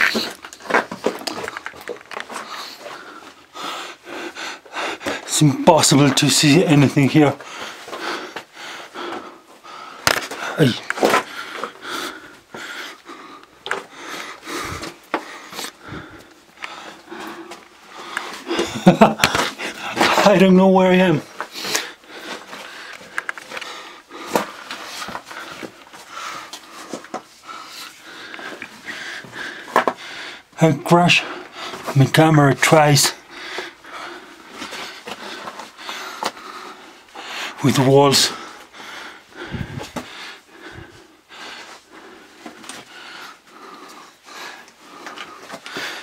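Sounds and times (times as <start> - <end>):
person breathing: 0.0 - 5.7, 7.4 - 20.2, 21.2 - 30.6, 33.1 - 37.6, 38.3 - 46.0.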